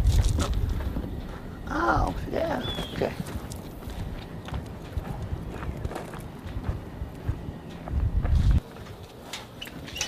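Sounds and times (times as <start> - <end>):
footsteps on gravel: 0.0 - 9.9.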